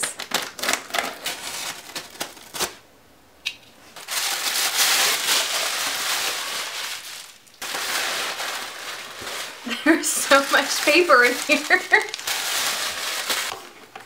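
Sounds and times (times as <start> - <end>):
tissue paper crinkling: 0.1 - 2.8, 4.0 - 13.9.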